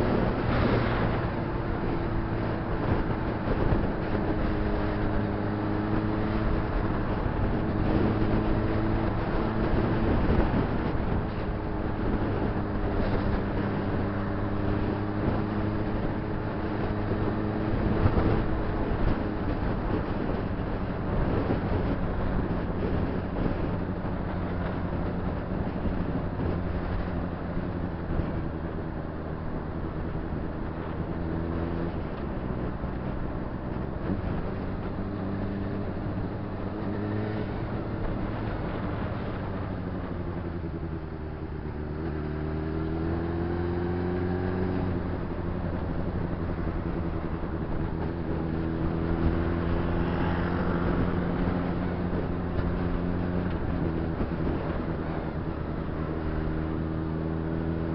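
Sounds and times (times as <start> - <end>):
motorcycle engine: 0.0 - 57.9
wind rush: 0.0 - 57.9.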